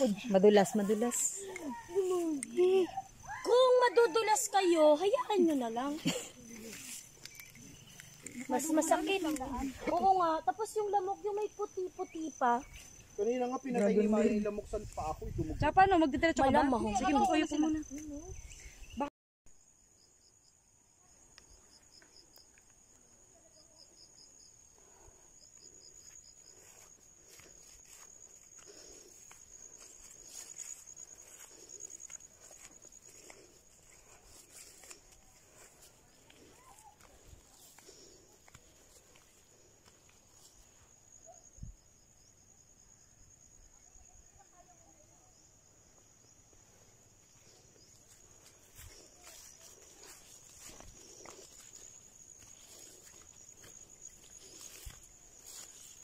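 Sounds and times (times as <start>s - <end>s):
high-pitched insect trill: 0.0s - 56.0s
insect chirping in pulses: 0.0s - 56.0s.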